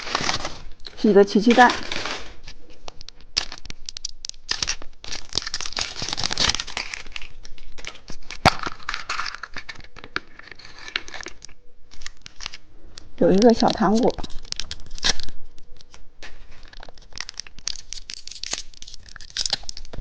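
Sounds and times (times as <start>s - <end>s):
wrapping crinkling and tearing: 0.0s - 20.0s.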